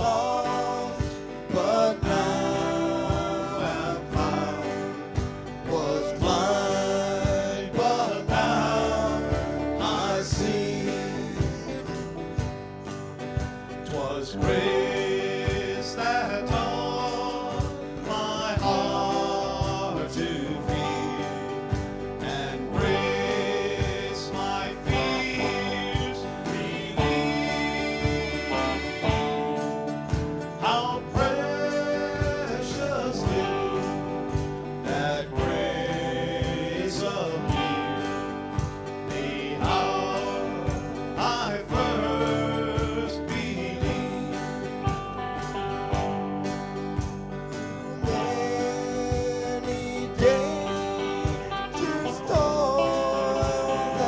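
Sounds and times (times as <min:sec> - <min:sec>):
man singing lead: 0:00.0 - 0:12.6, 0:13.3 - 0:46.0, 0:47.1 - 0:54.0
bass guitar: 0:00.0 - 0:54.0
drum kit beat: 0:00.0 - 0:54.0
electric guitar: 0:00.0 - 0:54.0
strummed acoustic guitar: 0:00.0 - 0:54.0.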